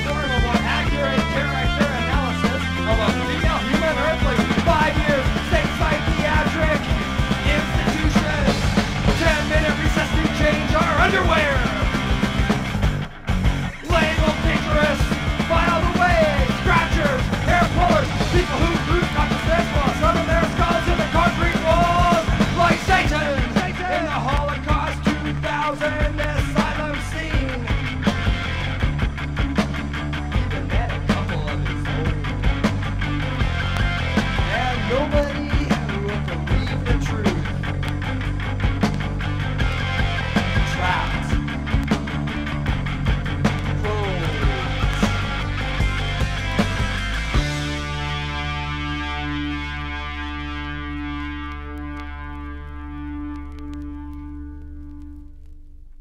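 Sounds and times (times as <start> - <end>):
busy drumming: 0.0 - 48.2
rock band playing: 0.0 - 55.1
steady bass: 0.0 - 56.0.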